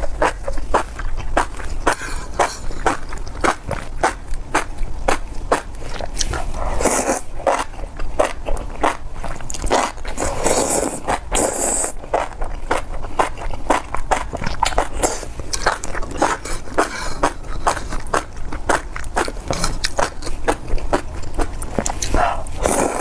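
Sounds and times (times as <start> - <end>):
close chewing: 0.0 - 23.0.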